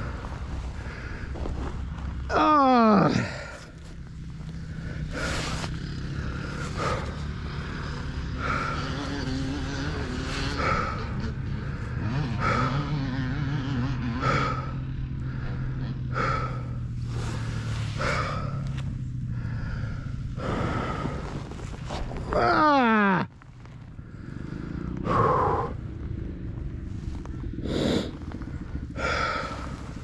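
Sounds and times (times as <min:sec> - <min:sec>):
rider breathing: 0:00.0 - 0:02.3, 0:03.1 - 0:30.0
dirt bike engine running: 0:00.0 - 0:30.0.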